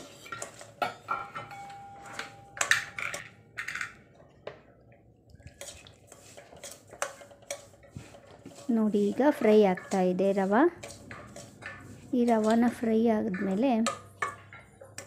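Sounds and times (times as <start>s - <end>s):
ladle scraping steel pan: 0.0s - 3.2s, 5.5s - 15.0s.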